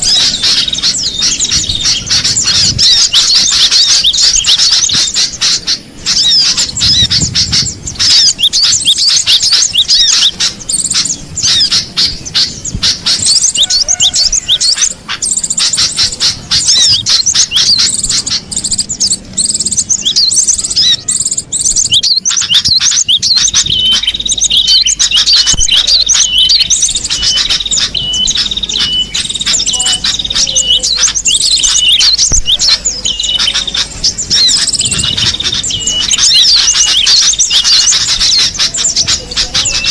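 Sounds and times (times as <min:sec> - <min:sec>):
tit chirping rapidly: 0:00.0 - 0:39.9.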